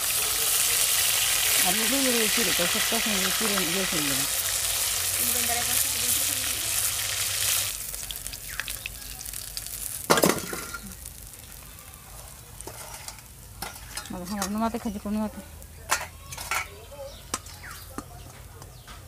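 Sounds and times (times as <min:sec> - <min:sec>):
fish sizzling in hot oil: 0:00.0 - 0:16.6.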